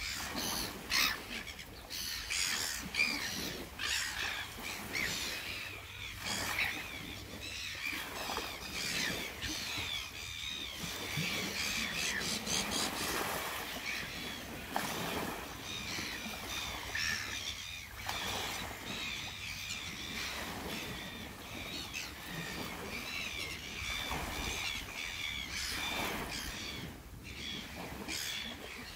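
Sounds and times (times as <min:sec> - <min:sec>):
gulls squawking: 0:00.0 - 0:28.9
small waves washing ashore: 0:00.0 - 0:28.9.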